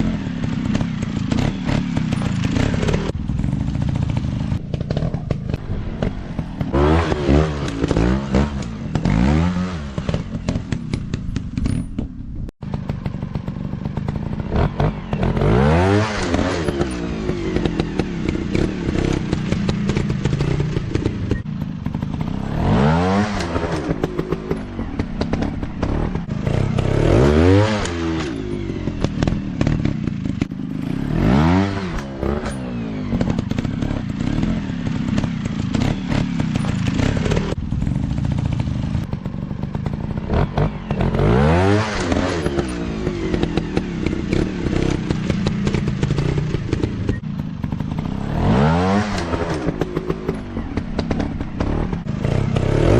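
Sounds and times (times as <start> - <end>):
dirt bike engines revving: 0.0 - 11.9, 12.7 - 52.9.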